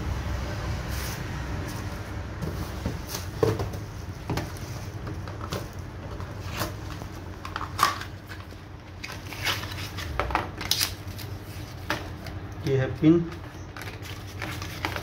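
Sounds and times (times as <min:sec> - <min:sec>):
paper and card rustling: 0:01.0 - 0:15.0.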